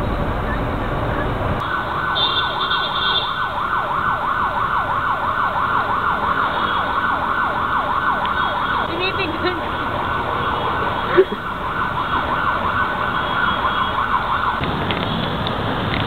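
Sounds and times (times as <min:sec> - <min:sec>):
siren yelping: 0:00.0 - 0:14.7.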